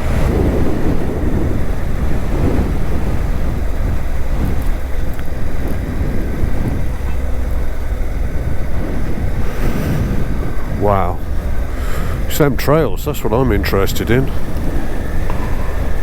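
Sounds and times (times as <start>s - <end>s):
motorcycle engine drone: 0.0s - 16.0s
wind rush on microphone: 0.0s - 16.0s.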